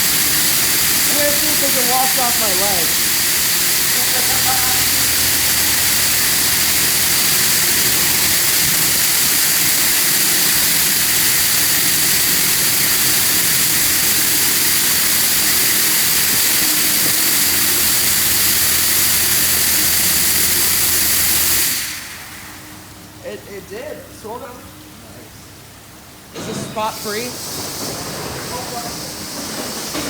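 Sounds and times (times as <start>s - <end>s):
high-pressure water spray hissing: 0.0s - 23.0s, 26.6s - 30.0s.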